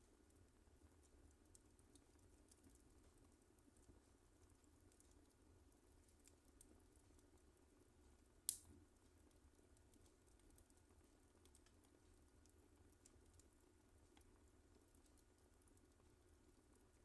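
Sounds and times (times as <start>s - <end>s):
wood fire crackling: 0.0s - 17.0s
faint ticks: 0.1s - 17.0s.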